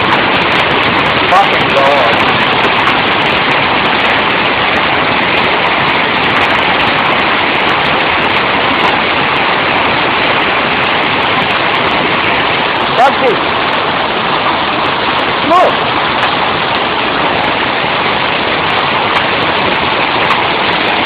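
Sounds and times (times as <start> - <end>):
hail pelting down: 0.0 - 21.0
hailstones ticking on hard surfaces: 0.0 - 21.0.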